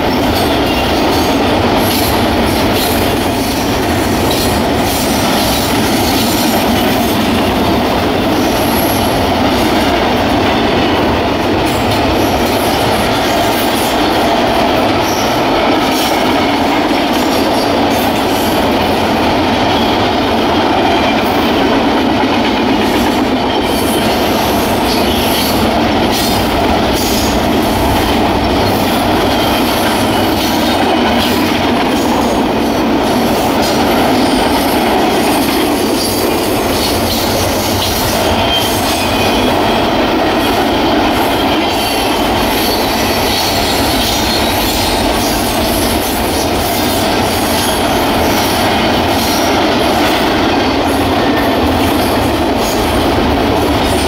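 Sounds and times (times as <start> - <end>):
train cars rolling on rails: 0.0 - 54.0.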